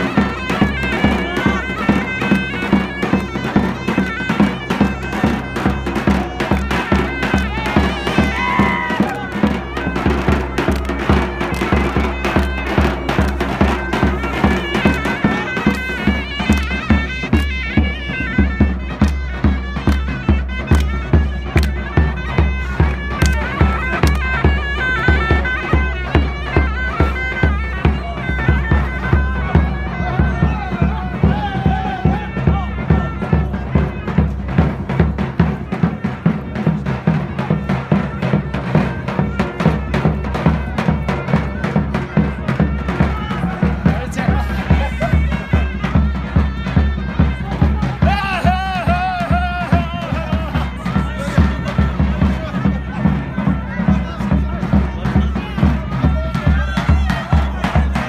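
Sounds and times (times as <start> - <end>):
heavy drum beats: 0.0 - 58.0
shrill reed wind instrument melody: 0.0 - 58.0.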